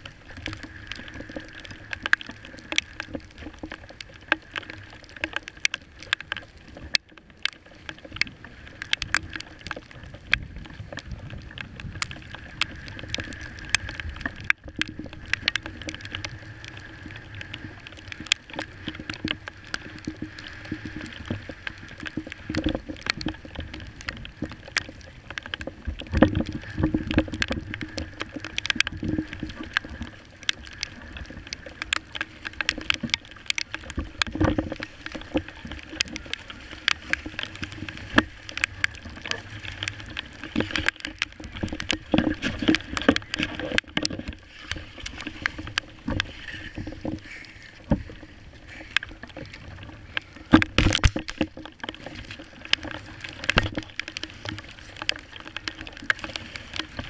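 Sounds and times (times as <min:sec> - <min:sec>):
rushing water: 0:00.0 - 0:57.0
waves slapping kayak hull: 0:00.0 - 0:57.0
wind: 0:00.0 - 0:57.0.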